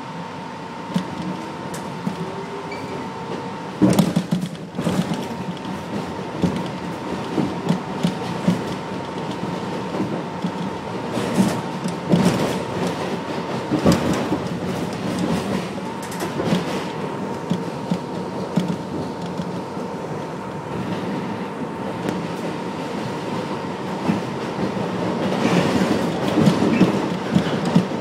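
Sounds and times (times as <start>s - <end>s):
train rumble: 0.0s - 28.0s
train wheels clacking over rail joints: 0.9s - 19.6s, 23.3s - 28.0s.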